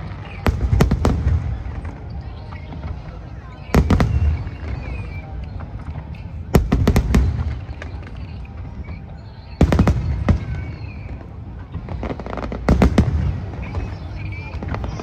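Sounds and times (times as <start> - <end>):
fireworks sharp bangs: 0.0 - 15.0.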